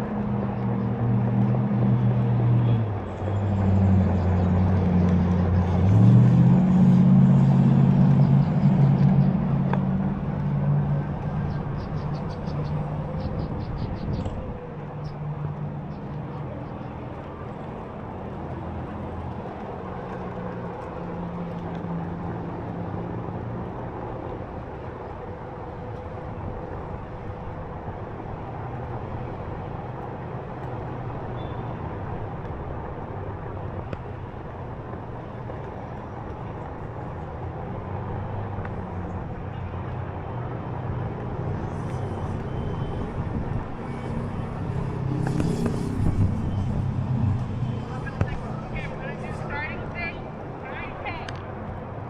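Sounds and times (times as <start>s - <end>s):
city street traffic: 0.0s - 52.0s.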